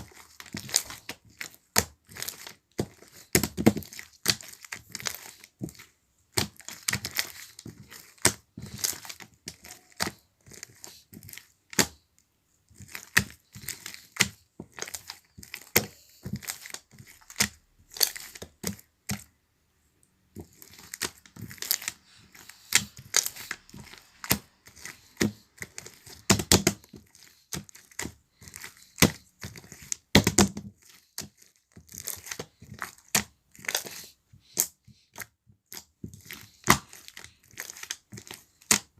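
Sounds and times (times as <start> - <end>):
crinkling and crackling: 0.0 - 19.3, 20.3 - 38.9.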